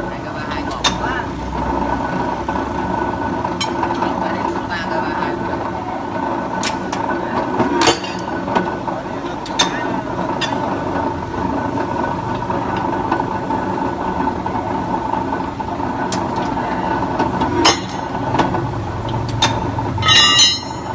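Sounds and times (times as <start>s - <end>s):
rebar cutter motor hum: 0.0s - 20.9s.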